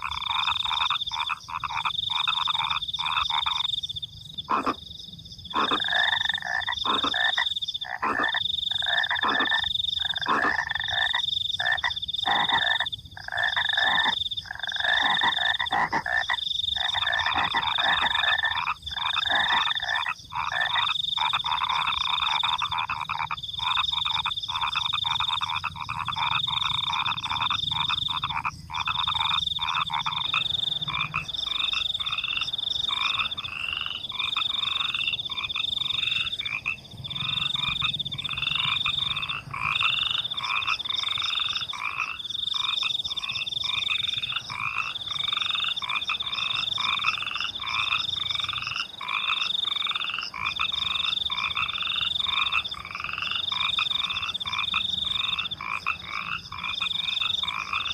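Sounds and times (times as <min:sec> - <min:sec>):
crickets trilling: 0:00.0 - 0:57.9
frogs calling: 0:00.0 - 0:57.9.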